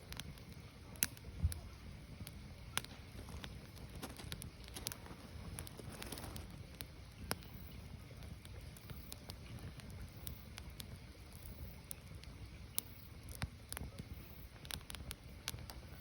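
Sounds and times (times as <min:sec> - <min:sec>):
firewood burning with pops: 0:00.0 - 0:16.0.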